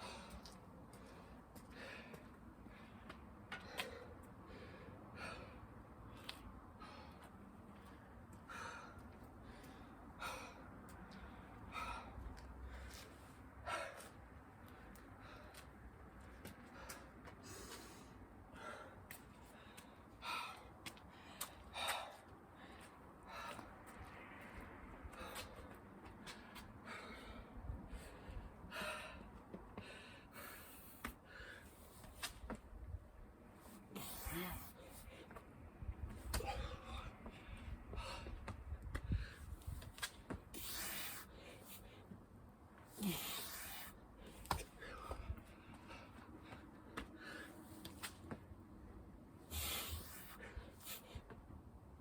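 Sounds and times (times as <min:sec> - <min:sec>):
person breathing hard: 0:00.0 - 0:32.2, 0:36.3 - 0:39.9, 0:42.9 - 0:48.0, 0:49.4 - 0:51.4.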